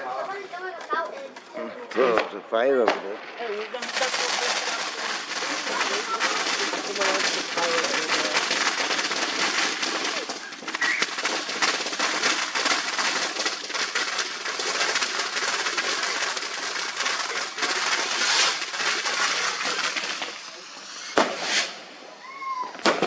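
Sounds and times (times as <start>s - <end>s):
fireworks crackling and hissing: 0.0s - 23.0s.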